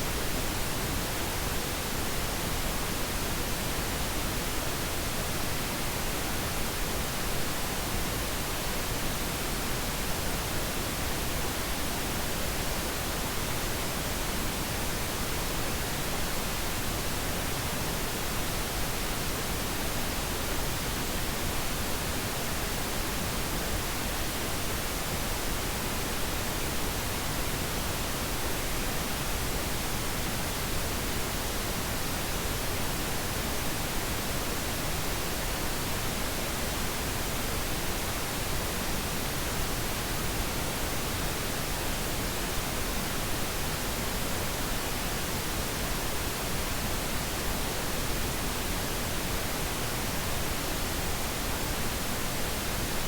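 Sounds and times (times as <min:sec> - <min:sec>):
steady pink noise hiss: 0:00.0 - 0:53.0.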